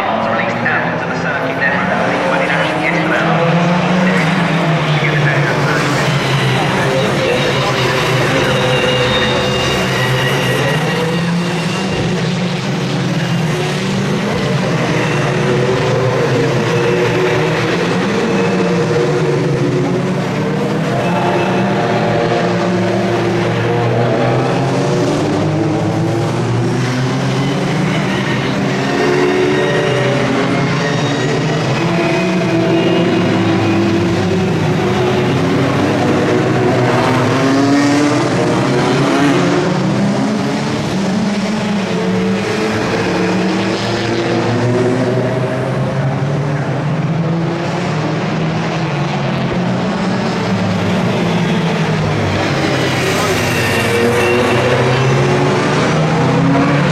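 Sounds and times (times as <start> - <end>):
racing cars passing: 0.0 - 56.9.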